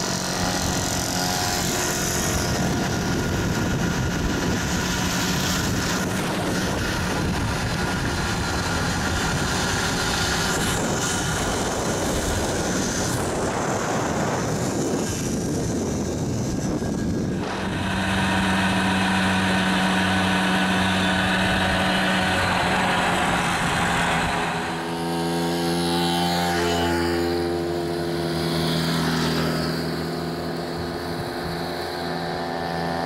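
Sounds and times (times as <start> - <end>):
moped engines running: 0.0 - 33.0
wind and road noise: 0.0 - 33.0.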